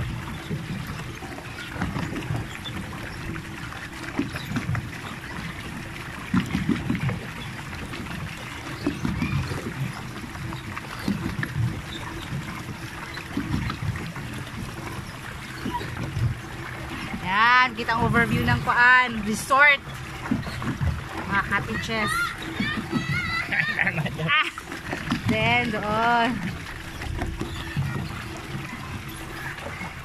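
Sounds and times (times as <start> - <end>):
water churning and lapping: 0.0 - 30.0.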